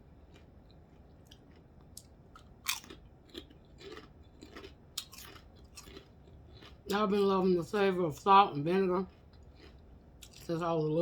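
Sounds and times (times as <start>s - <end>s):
person crunching potato chips: 0.2s - 10.6s.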